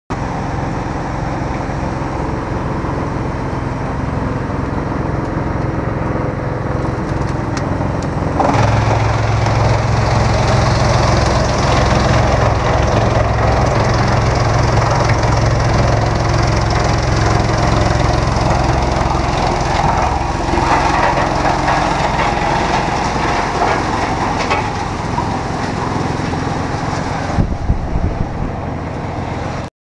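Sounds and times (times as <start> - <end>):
wood chipper running: 0.1 - 29.7.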